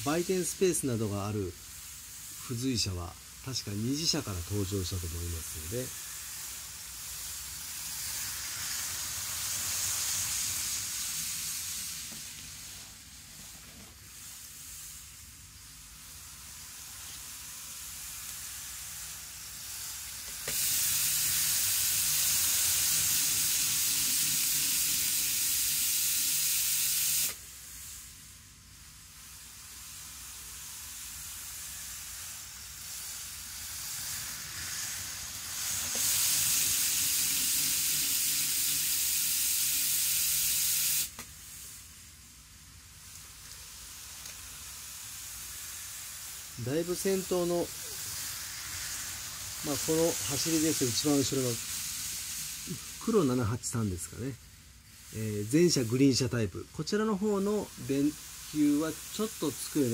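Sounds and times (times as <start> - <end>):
model train wheels hissing on rail: 0.0 - 59.9.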